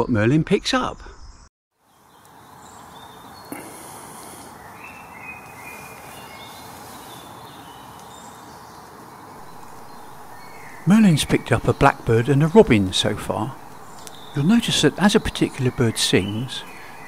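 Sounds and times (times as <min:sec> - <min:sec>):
woodland birdsong: 0:01.0 - 0:17.0
blackbird singing: 0:01.3 - 0:17.0
background hiss: 0:01.8 - 0:17.0.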